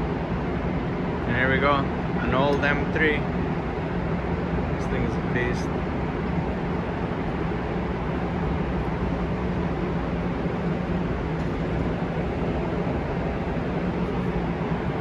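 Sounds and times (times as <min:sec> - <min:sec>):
venue background hum and hiss: 0:00.0 - 0:15.0.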